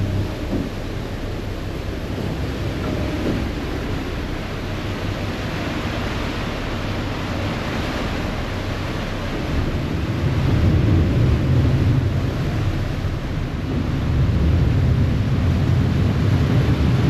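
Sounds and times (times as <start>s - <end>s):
ship engine rumble: 0.0s - 17.0s
water rushing along hull: 0.0s - 17.0s
wind buffeting microphone: 0.0s - 17.0s.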